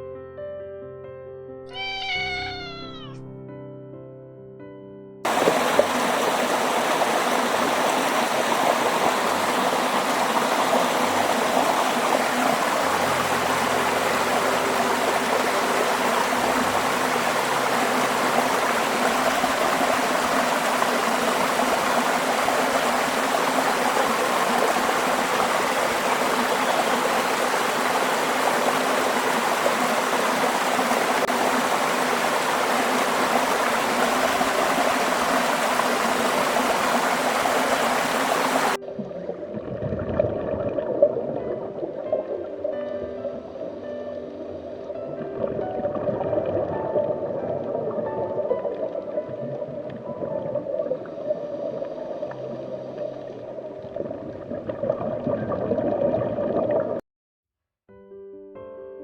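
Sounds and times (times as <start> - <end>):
running water: 5.3 - 57.0.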